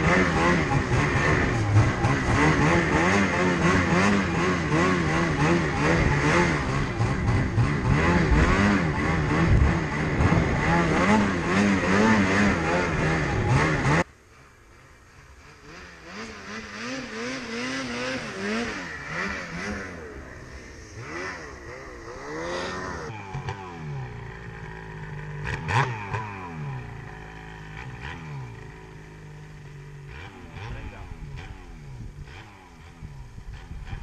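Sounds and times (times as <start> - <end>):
distant snowmobile engines revving: 0.0 - 34.0
snowmobile engine idling: 0.0 - 34.0
snowmobile engine revving: 0.0 - 34.0.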